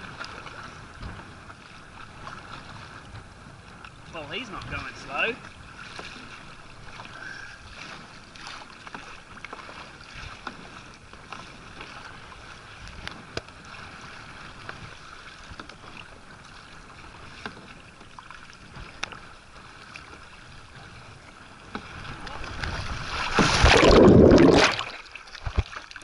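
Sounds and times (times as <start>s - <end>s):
paddle splashing in water: 0.0s - 26.0s
water washing along hull: 0.0s - 26.0s.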